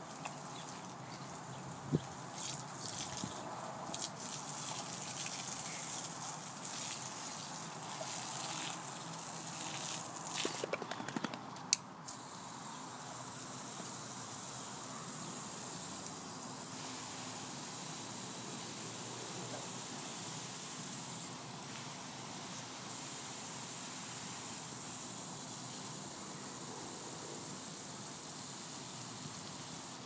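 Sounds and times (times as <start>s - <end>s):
water spraying and splashing: 0.0s - 10.7s, 15.5s - 30.0s.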